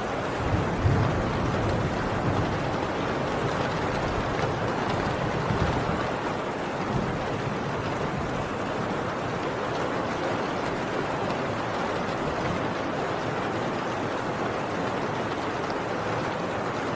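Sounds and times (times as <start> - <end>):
heavy rain on a tin roof: 0.0 - 16.9.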